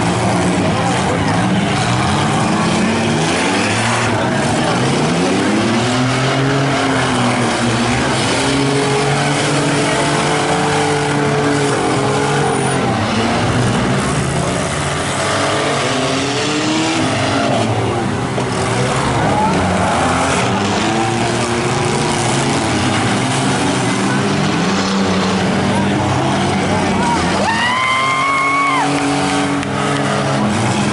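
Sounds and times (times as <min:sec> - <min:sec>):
car engines revving: 0:00.0 - 0:30.9.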